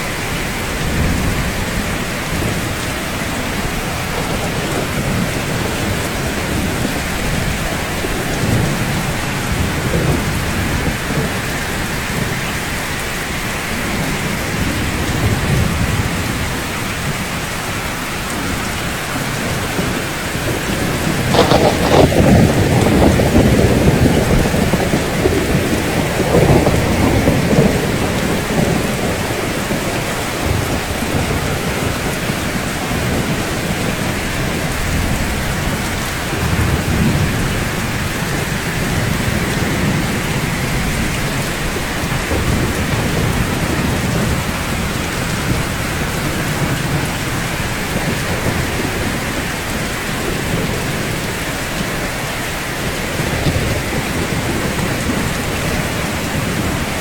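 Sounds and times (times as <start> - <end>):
heavy rainfall: 0.0 - 57.0
thunder rumbling: 0.0 - 57.0.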